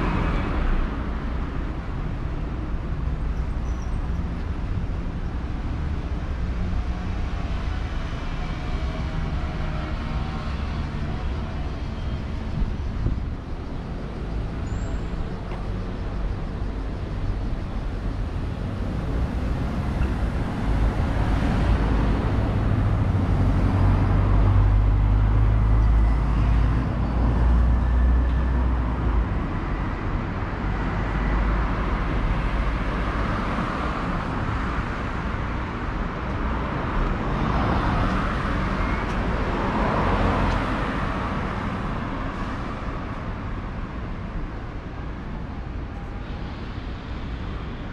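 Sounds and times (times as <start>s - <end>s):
street traffic hum: 0.0s - 47.9s.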